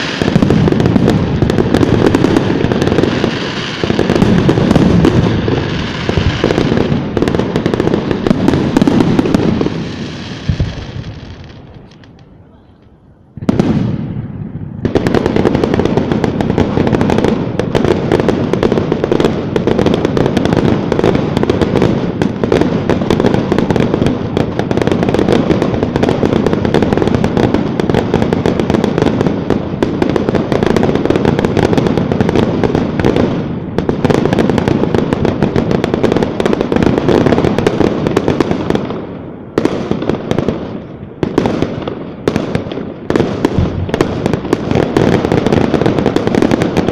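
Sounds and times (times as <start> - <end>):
fireworks bursts and crackle: 0.0 - 46.9.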